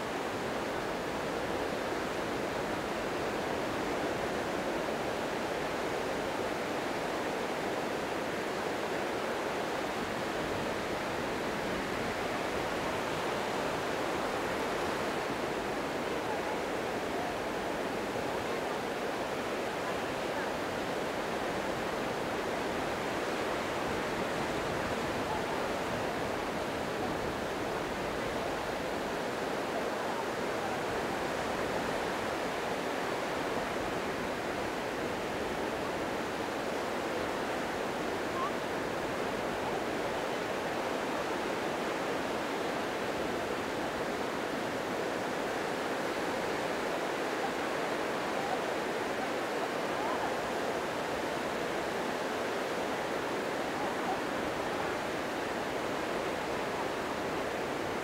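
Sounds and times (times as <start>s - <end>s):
waves washing onto beach: 0.0s - 58.0s.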